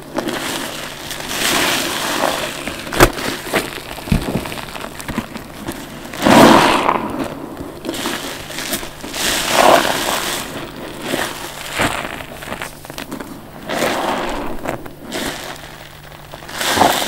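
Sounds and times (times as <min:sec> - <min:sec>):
foam crackling: 0:00.0 - 0:17.0
wet sponge squelching: 0:00.0 - 0:17.0.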